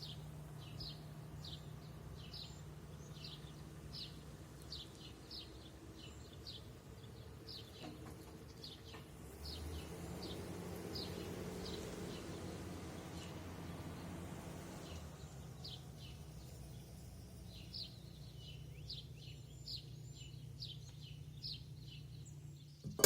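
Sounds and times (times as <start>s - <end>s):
bird chirping: 0.0s - 12.4s, 14.8s - 23.0s.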